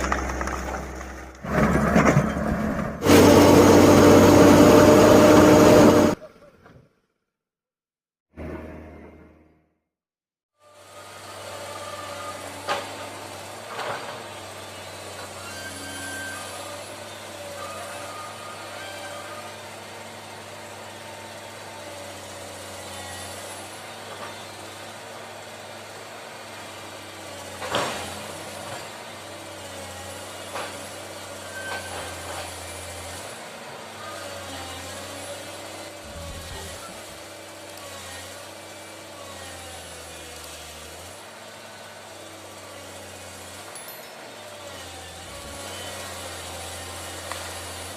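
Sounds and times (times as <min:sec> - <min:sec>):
excavator diesel engine running: 0:00.0 - 0:06.3, 0:11.0 - 0:47.9.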